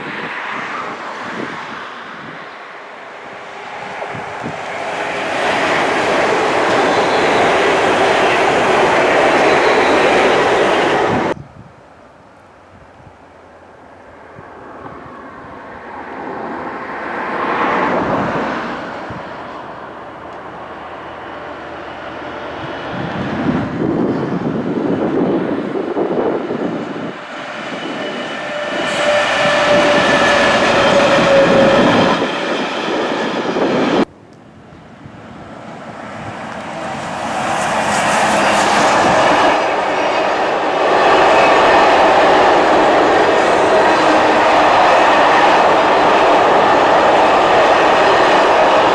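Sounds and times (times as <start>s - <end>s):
train wheels rushing on rail: 0.0s - 11.4s, 13.0s - 48.9s.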